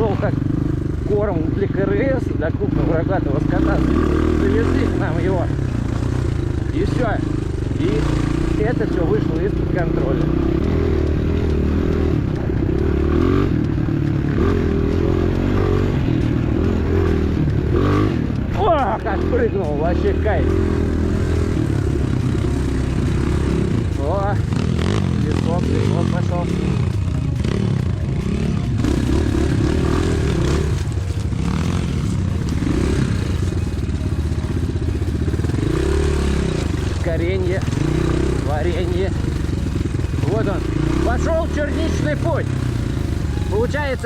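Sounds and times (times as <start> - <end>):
bike rattling over rough ground: 0.0 - 44.0
motorcycle engine revving: 0.0 - 44.0.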